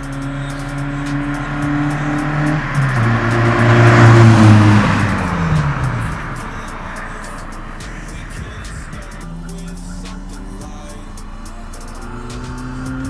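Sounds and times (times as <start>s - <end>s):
car engine accelerating past: 0.0s - 13.0s.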